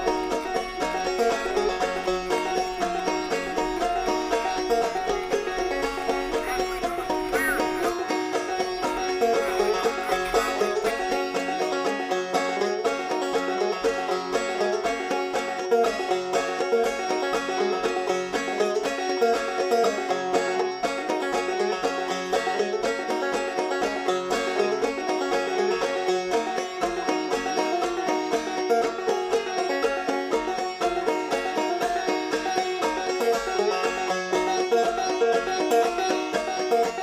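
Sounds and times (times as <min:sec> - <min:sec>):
bluegrass banjo music: 0:00.0 - 0:37.0.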